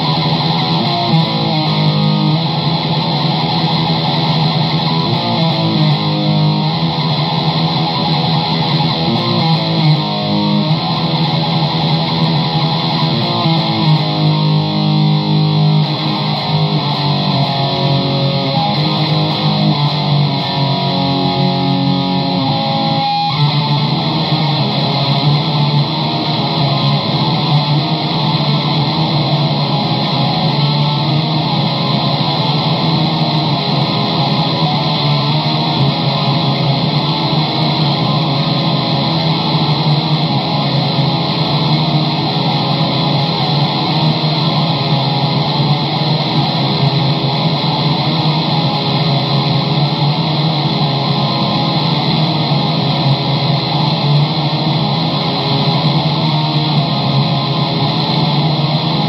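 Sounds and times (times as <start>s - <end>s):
electric guitar music: 0.0s - 59.0s.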